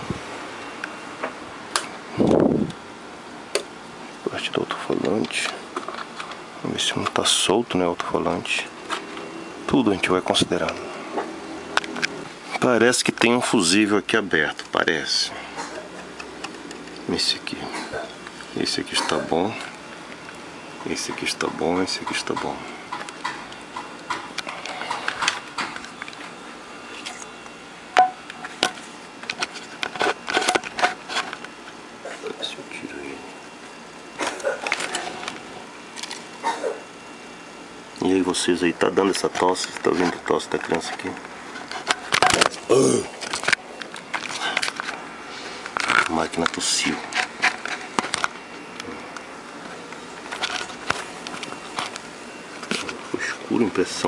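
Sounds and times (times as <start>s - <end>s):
hands handling wiring and parts: 4.4s - 15.1s, 16.0s - 31.8s, 34.2s - 36.4s, 38.0s - 54.0s.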